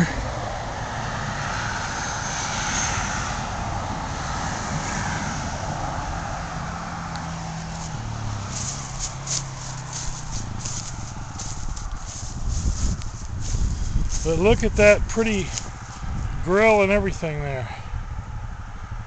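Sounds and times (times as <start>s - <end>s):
distant engine drone: 0.0s - 19.0s.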